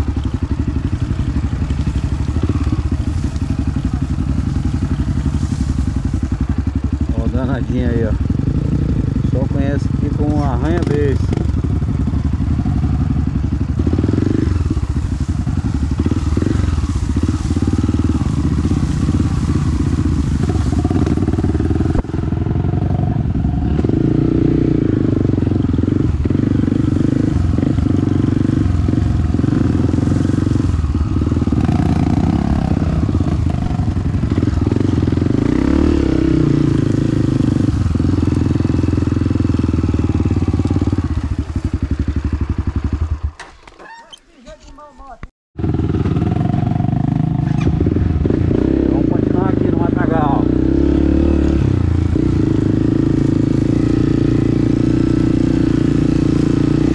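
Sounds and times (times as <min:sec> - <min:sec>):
motorcycle engine running: 0:00.0 - 0:43.5, 0:45.6 - 0:56.9.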